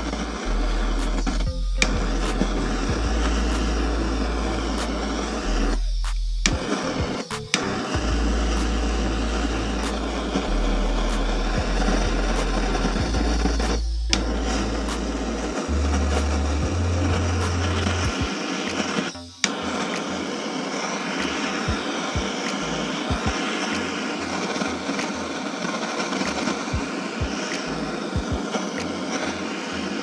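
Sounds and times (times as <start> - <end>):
blowtorch hissing: 0.0 - 30.0.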